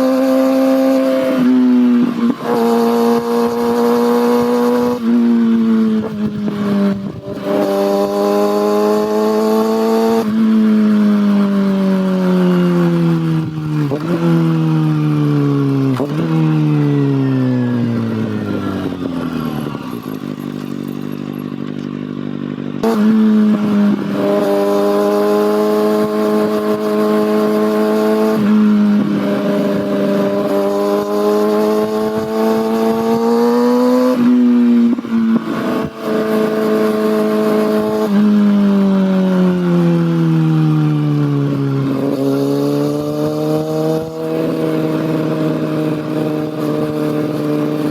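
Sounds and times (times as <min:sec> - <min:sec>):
motorcycle engine and exhaust: 0:00.0 - 0:47.9.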